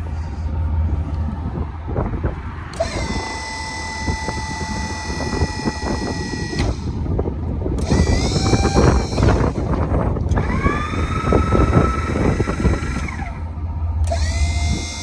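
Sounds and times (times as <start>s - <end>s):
diesel engine running: 0.0s - 15.0s
high-pitched equipment whine: 0.0s - 15.0s.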